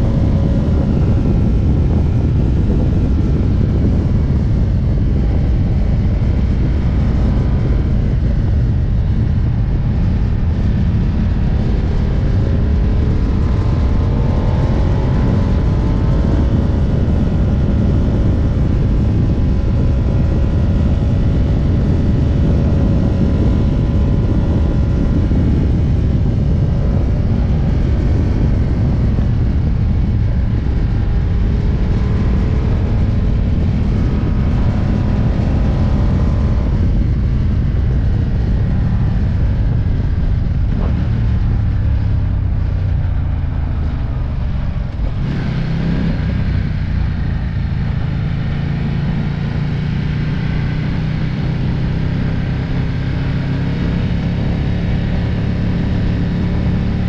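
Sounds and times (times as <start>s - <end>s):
motorcycle engine running: 0.0s - 57.0s
wind rush: 0.0s - 57.0s.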